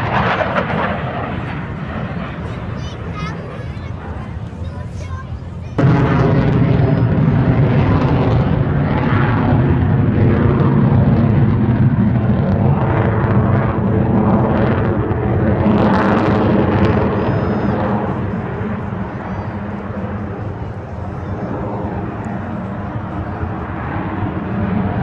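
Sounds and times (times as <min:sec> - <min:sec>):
jet aircraft roaring past: 0:00.0 - 0:25.0.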